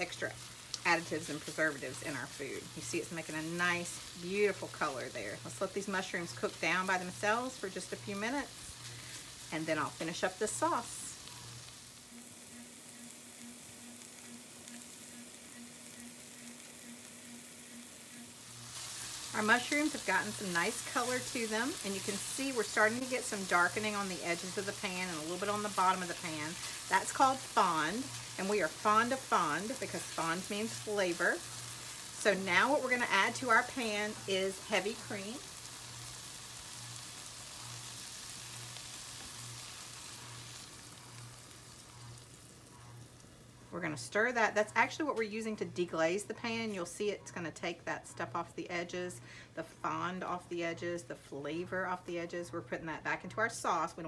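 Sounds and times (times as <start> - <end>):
mushrooms sizzling in a pan: 0.0 - 46.5
faint steady hum: 0.0 - 54.0.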